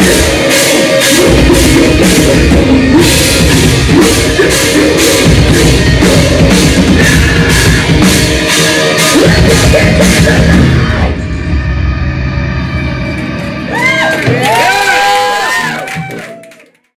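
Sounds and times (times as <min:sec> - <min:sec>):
distorted electric guitar: 0:00.0 - 0:16.1
drum kit: 0:00.0 - 0:16.6.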